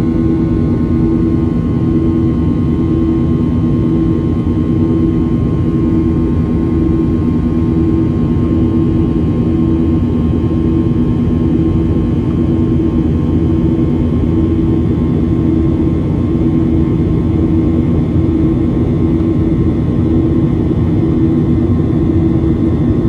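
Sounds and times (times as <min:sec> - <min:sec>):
jet engine cabin drone: 0:00.0 - 0:23.0
pulsing low hum: 0:00.0 - 0:23.0.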